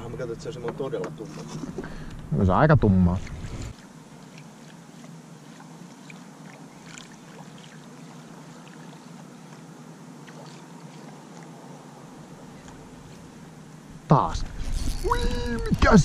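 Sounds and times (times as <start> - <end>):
calm water washing around boat: 0.0 - 16.0.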